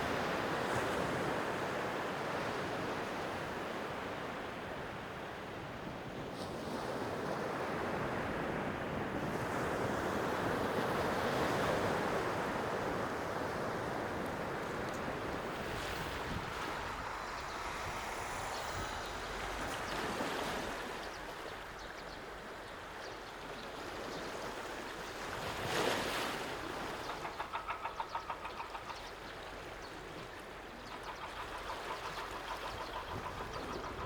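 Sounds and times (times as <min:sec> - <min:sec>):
sea waves washing on shore: 0:00.0 - 0:34.0.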